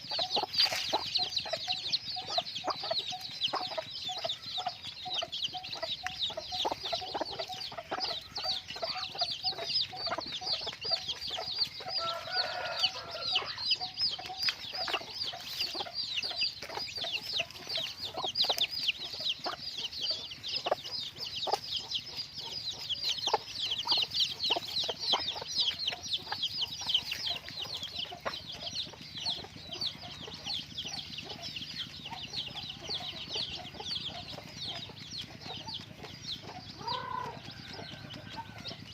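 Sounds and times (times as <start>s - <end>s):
chicks peeping: 0.0s - 38.9s
low clucking: 0.0s - 38.9s.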